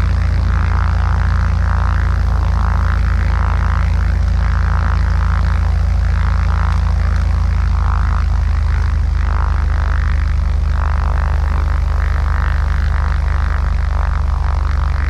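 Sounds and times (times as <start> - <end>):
propeller engine idling: 0.0 - 15.0.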